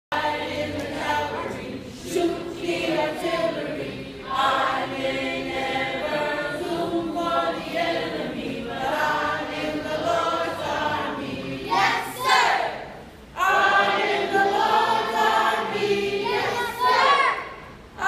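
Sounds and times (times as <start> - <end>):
children's choir singing: 0.2 - 18.0.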